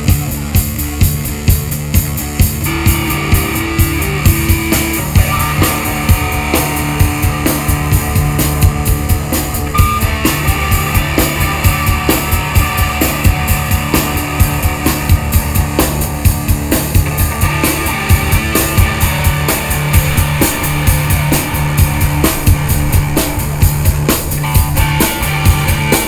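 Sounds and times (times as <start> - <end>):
bass guitar: 0.0 - 26.0
drum beat: 0.0 - 26.0
electric guitar: 0.0 - 26.0.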